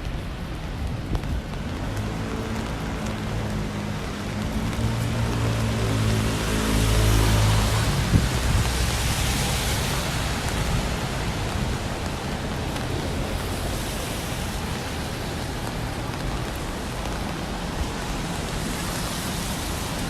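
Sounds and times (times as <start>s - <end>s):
steady rain with wind: 0.0s - 20.0s.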